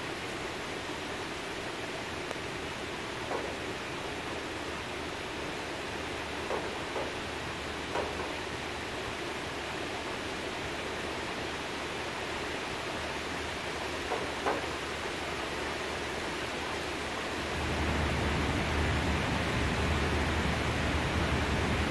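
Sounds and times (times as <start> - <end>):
heavy rain pouring: 0.0 - 21.9.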